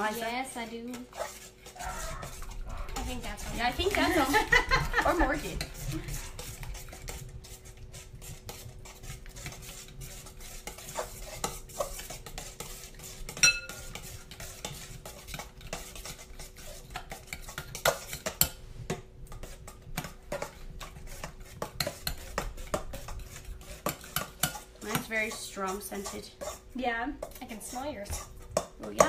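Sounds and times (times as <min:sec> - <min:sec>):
spoons scraping in bowls: 0:00.0 - 0:18.6, 0:19.3 - 0:29.0.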